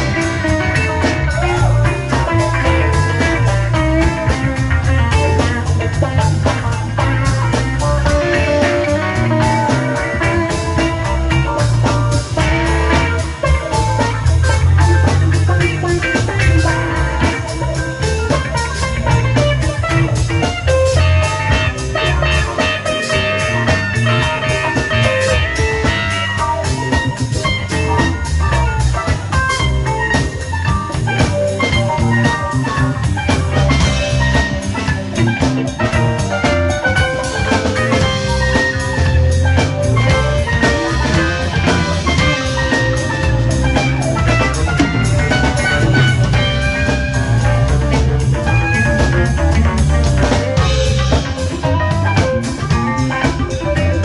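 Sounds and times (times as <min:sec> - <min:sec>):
drum kit: 0:00.0 - 0:54.0
electric bass: 0:00.0 - 0:54.0
electric guitars: 0:00.0 - 0:54.0
keyboard: 0:00.0 - 0:54.0.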